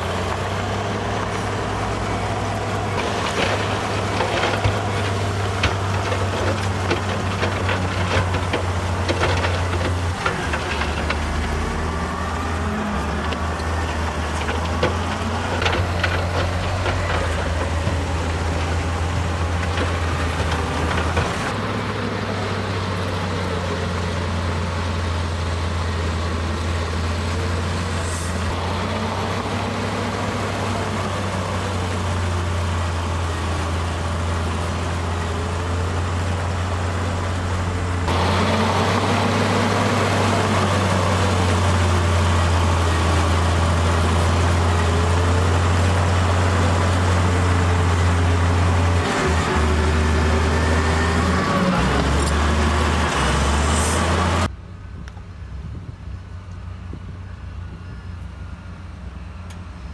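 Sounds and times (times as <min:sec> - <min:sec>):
heavy machinery diesel engine running: 0:00.0 - 0:55.5.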